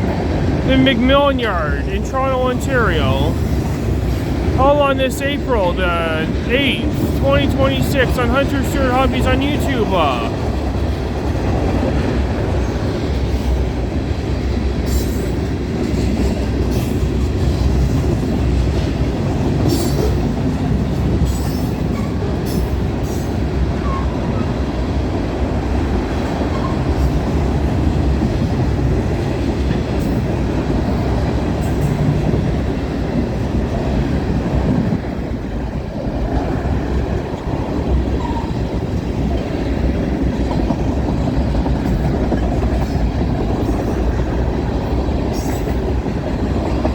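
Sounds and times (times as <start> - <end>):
freight train rolling on rails: 0.0 - 46.9.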